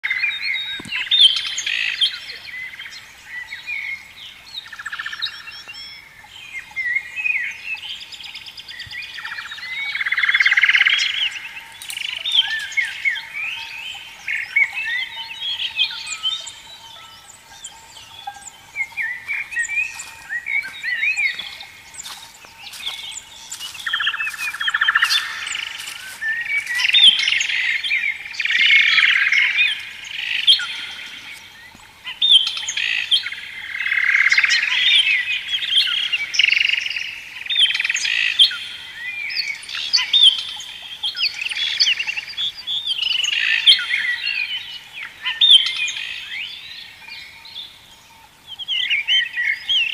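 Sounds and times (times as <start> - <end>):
birds chirping and whistling: 0.1 - 49.9.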